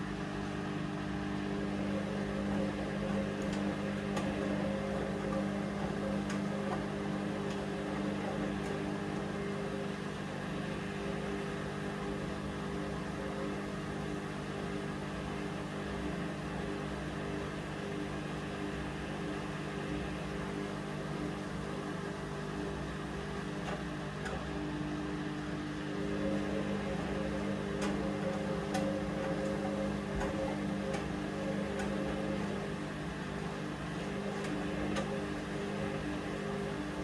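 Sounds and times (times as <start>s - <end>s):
washing machine motor hum: 0.0s - 37.0s.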